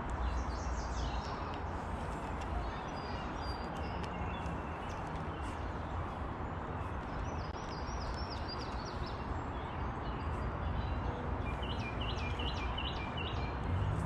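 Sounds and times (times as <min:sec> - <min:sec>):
rushing outdoor noise: 0:00.0 - 0:14.0
songbird chirping: 0:00.0 - 0:14.0.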